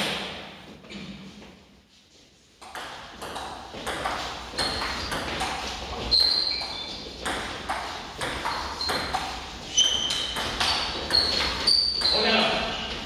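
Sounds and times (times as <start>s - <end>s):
shoes squeaking: 0.8s - 13.0s.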